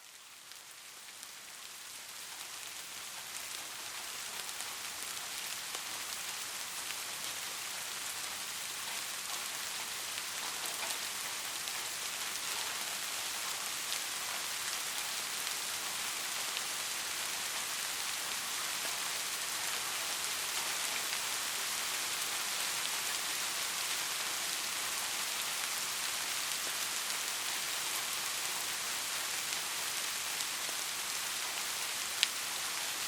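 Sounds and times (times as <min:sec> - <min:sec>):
rain downpour hiss: 0:00.0 - 0:33.0
raindrops ticking on hard surface: 0:00.4 - 0:33.0.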